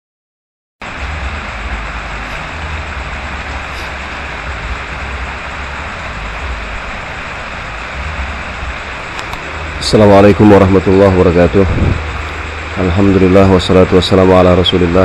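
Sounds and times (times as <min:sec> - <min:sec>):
low rumble: 0:00.8 - 0:13.9
rain hissing: 0:00.8 - 0:15.0.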